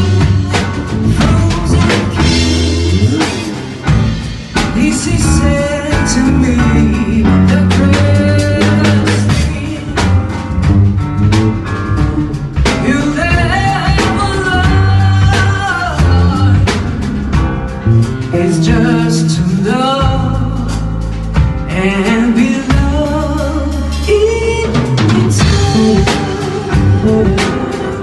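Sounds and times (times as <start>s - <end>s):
person singing: 0.0s - 3.9s, 4.6s - 10.3s, 12.0s - 17.0s, 18.2s - 21.0s, 21.6s - 28.0s
band playing a slow song: 0.0s - 28.0s.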